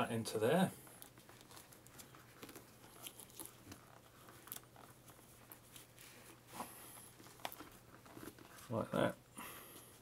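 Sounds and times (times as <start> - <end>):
scratchy rustling: 0.9 - 9.0.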